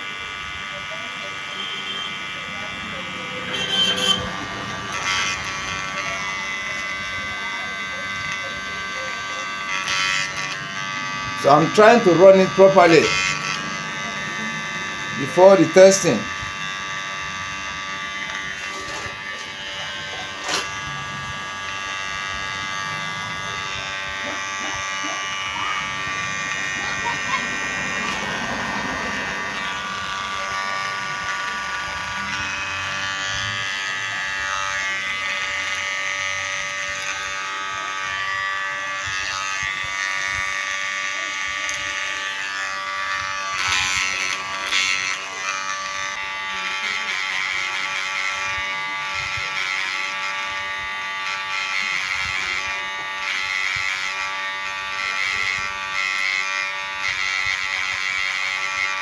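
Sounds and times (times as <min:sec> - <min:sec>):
hair clipper buzzing: 0:00.0 - 0:59.0.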